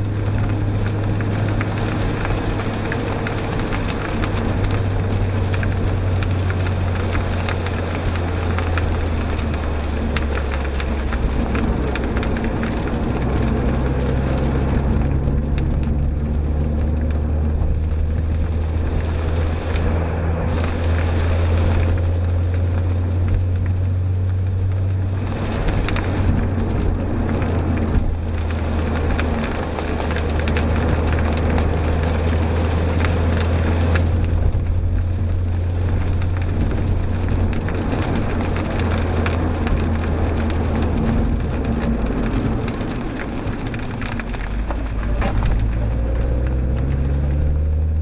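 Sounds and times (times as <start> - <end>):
car engine droning: 0.0 - 48.0
rain hitting car: 0.0 - 48.0
tyres hissing on wet road: 0.0 - 48.0.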